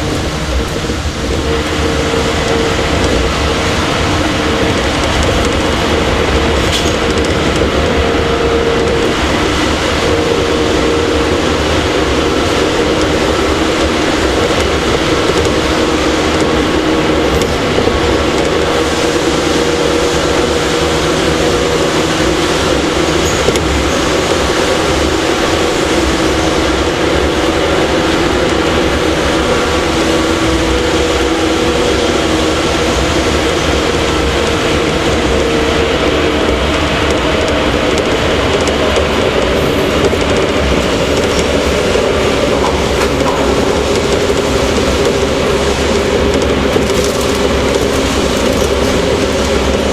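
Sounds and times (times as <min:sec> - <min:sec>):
traction motors humming: 0:00.0 - 0:49.9
wheels rumbling on rail: 0:00.0 - 0:49.9.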